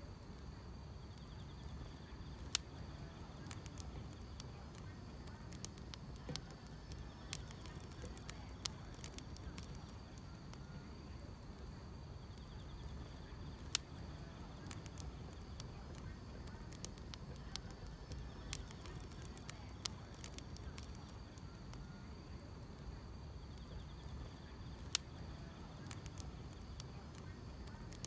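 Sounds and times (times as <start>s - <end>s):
wood fire crackling: 0.0s - 28.0s
grass insects trilling: 0.5s - 28.0s.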